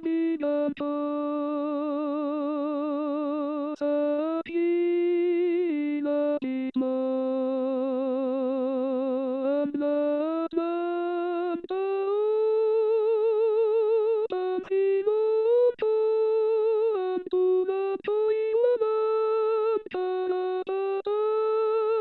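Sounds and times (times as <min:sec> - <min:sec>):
wordless voice singing: 0:00.0 - 0:22.0.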